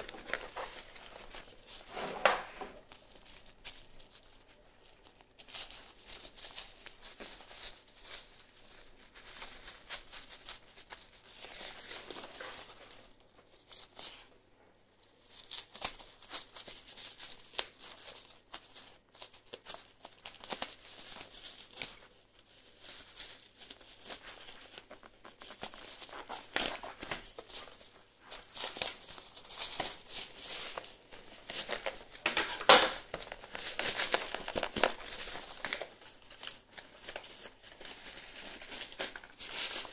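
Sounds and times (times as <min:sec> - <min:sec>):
bubble wrap crinkling: 0:00.0 - 0:14.4, 0:15.0 - 0:39.9.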